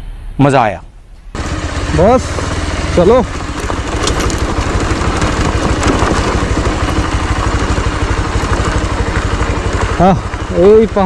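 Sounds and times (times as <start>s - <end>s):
motorcycle engine running: 1.3s - 11.0s
tyres on loose gravel: 1.4s - 11.0s.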